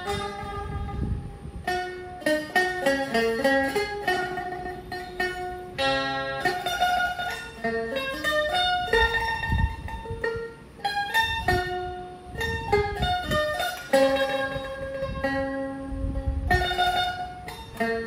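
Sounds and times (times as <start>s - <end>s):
plucked metal strings melody: 0.0s - 18.0s.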